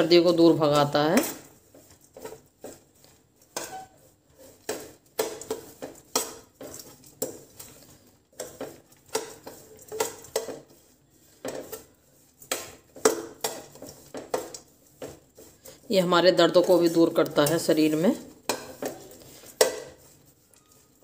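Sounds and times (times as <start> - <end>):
spoon scraping frying pan: 0.0 - 21.0.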